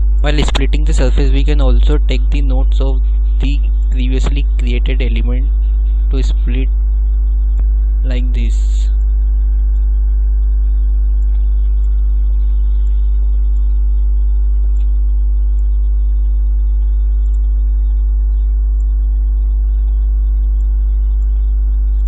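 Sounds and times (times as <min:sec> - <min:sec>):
deep electrical hum: 0:00.0 - 0:22.0.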